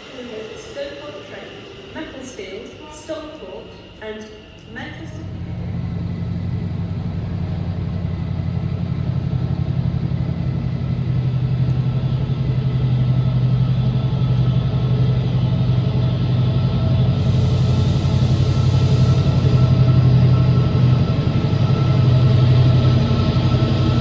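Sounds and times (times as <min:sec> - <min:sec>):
train humming: 0:00.0 - 0:24.0.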